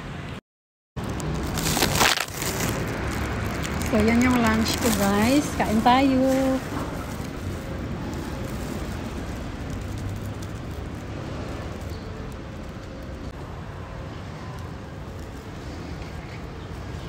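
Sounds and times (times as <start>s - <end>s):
low traffic rumble: 1.0s - 17.0s.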